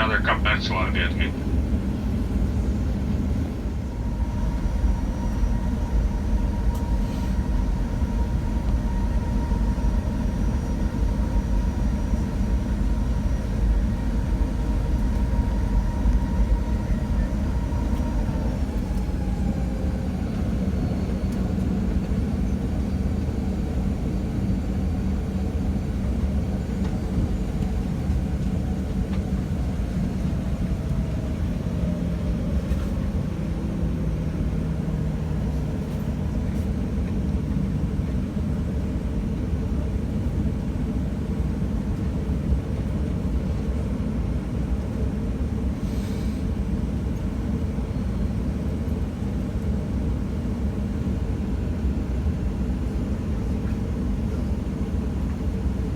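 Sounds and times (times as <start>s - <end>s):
aircraft engine rumble: 0.0s - 55.9s.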